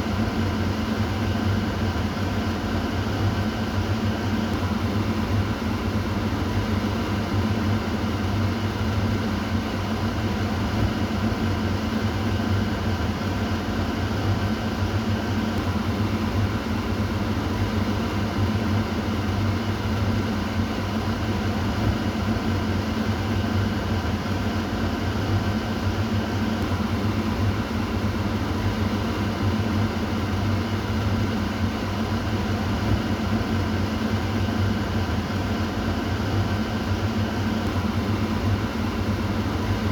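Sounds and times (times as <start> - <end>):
exhaust fan humming: 0.0 - 39.9.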